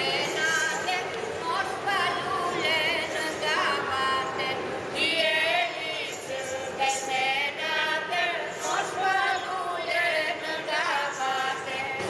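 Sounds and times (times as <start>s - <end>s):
women singing unaccompanied chant: 0.0s - 12.0s.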